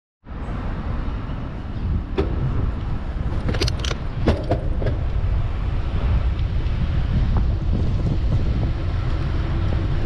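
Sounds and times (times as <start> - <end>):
traffic rumble: 0.2 - 10.0
wind on microphone: 0.4 - 10.0.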